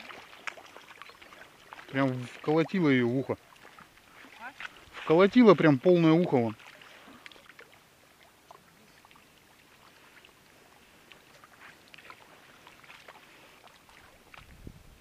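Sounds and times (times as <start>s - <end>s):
small fish splashing in water: 0.0s - 5.4s, 6.0s - 14.6s.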